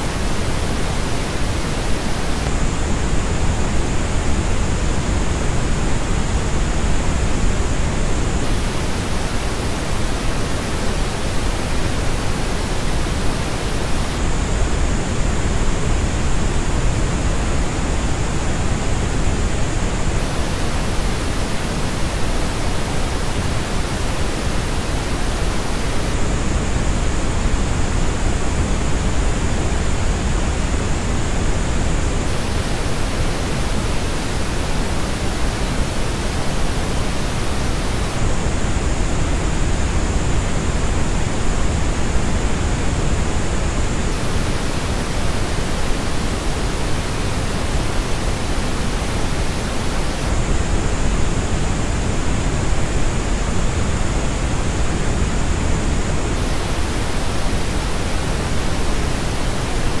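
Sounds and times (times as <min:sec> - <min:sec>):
pink noise test signal: 0:00.0 - 1:00.0.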